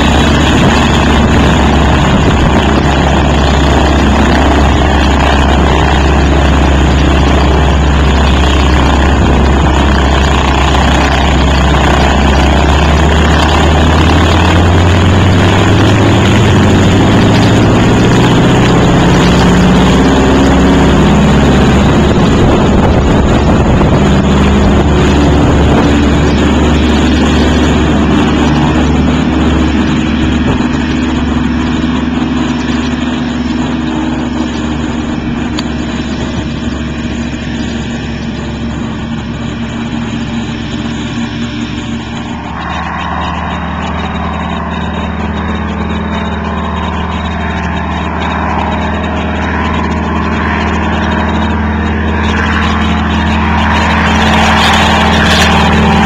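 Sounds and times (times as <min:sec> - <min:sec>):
propeller plane engine running up: 0:00.0 - 0:56.0.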